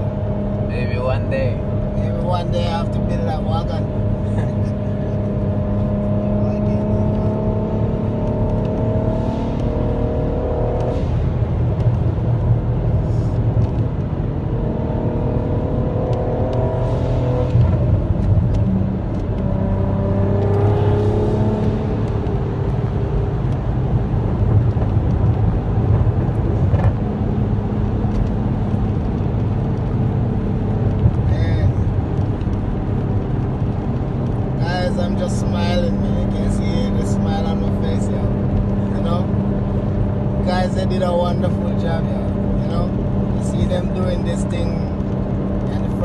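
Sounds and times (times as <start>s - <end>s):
car engine accelerating: 0.0s - 46.0s.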